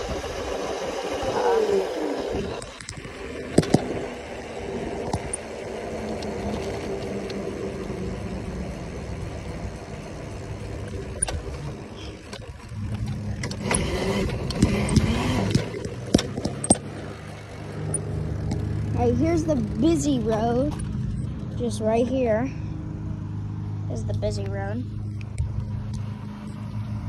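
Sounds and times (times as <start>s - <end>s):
steady rushing noise: 0.0s - 26.4s
dirt bike engine running: 0.0s - 27.0s.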